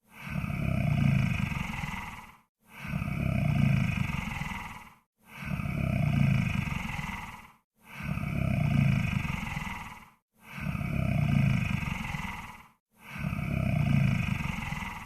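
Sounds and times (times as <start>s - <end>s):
monster snoring breaths: 0.0s - 15.0s.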